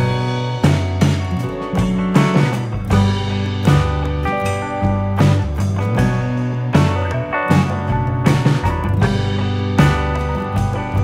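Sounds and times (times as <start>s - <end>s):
drum hits: 0.0s - 11.0s.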